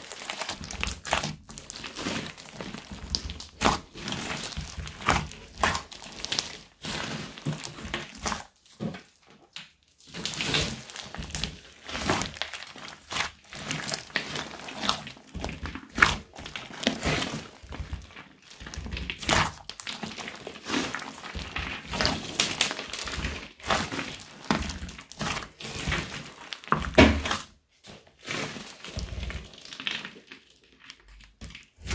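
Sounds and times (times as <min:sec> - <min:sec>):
slime squishing with pops: 0:00.0 - 0:31.9.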